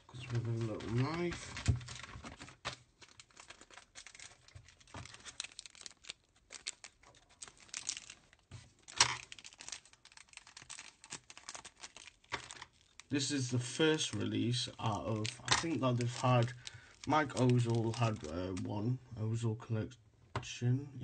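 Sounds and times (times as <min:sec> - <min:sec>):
plastic bag crackling: 0:00.0 - 0:18.6.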